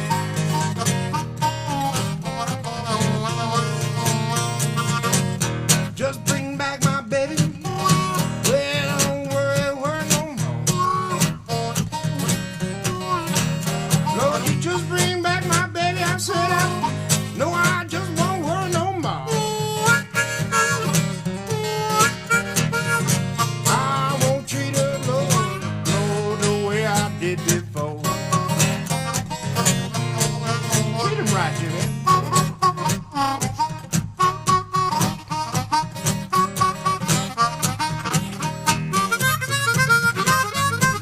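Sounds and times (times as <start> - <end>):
acoustic guitar picking: 0.0 - 41.0
harmonica solo: 0.0 - 41.0.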